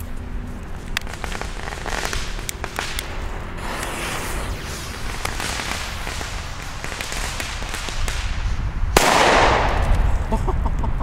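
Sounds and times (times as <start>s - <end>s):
firecracker bang: 1.1s - 10.2s.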